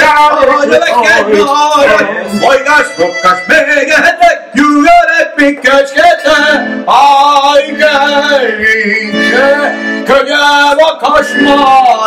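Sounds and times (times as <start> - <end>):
man singing: 0.0 - 12.0
piano accordion: 0.5 - 4.1, 5.5 - 12.0.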